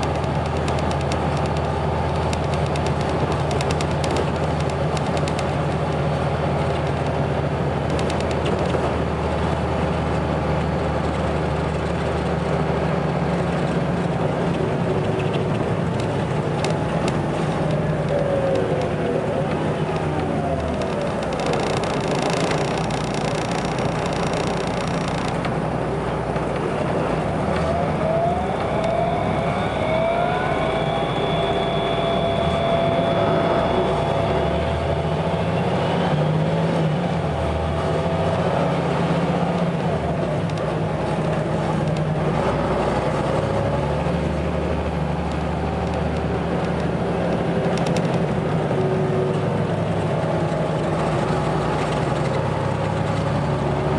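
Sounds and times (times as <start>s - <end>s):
bus diesel engine whining: 0.0s - 53.9s.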